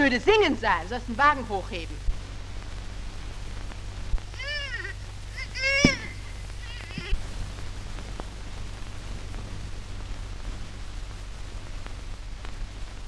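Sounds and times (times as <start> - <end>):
film soundtrack hiss and hum: 0.0 - 13.0.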